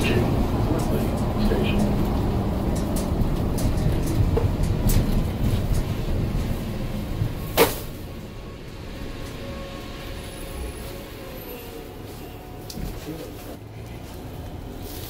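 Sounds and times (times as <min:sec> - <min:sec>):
bus engine slowing to idle: 0:00.0 - 0:15.0.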